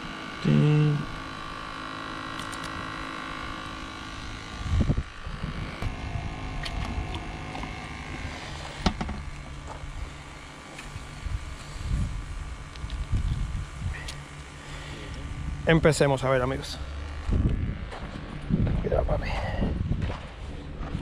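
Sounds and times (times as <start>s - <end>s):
small motor humming: 0.0s - 18.9s
low rumble: 3.4s - 21.0s.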